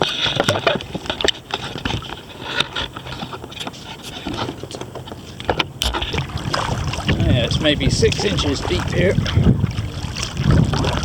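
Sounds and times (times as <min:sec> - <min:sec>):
kayak paddle splashing: 0:00.0 - 0:11.0.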